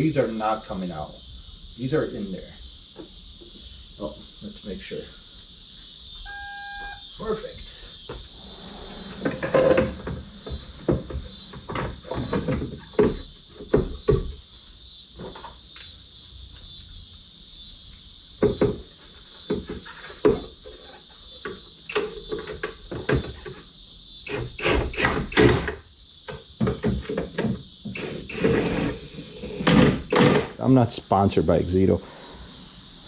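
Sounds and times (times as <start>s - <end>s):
steady high hiss: 0.0s - 33.0s.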